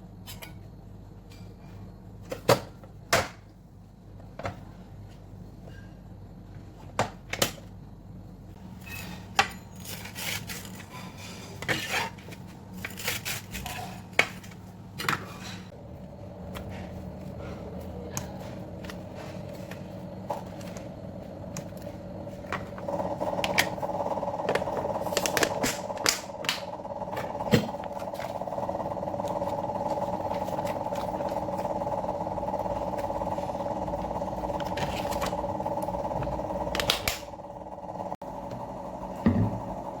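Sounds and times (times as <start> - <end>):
appliance humming: 0.0 - 40.0.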